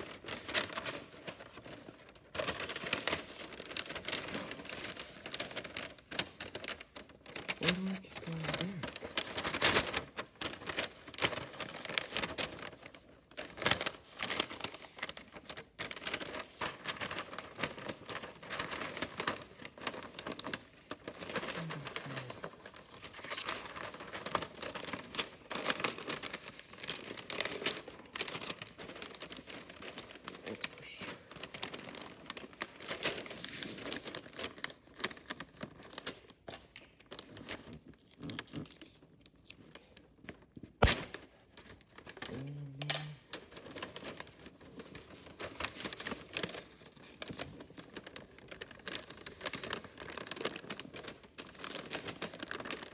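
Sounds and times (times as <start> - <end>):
wrapping paper crinkling: 0.0 - 52.9.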